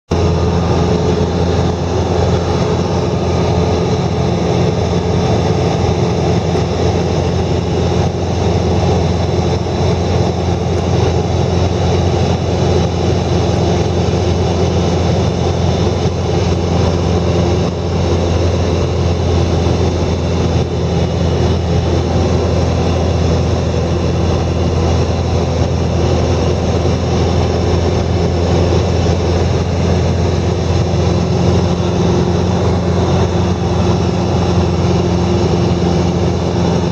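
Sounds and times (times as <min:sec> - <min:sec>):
engine running steadily: 0:00.1 - 0:36.9.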